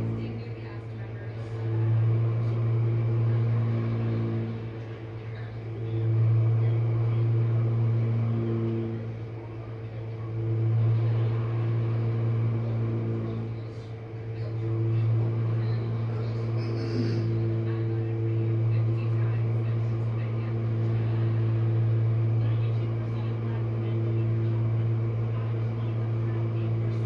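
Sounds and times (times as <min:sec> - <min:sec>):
dishwasher motor humming: 0:00.0 - 0:27.0.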